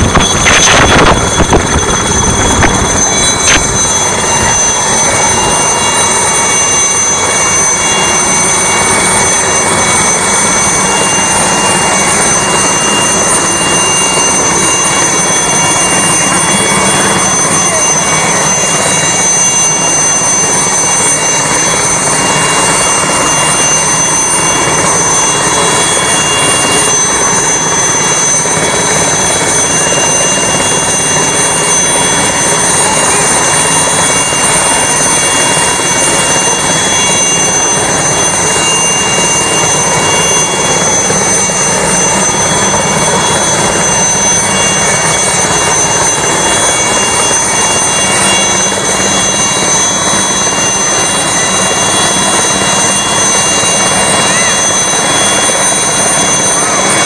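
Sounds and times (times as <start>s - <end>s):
helicopter turbine and rotors: 0.0s - 57.0s.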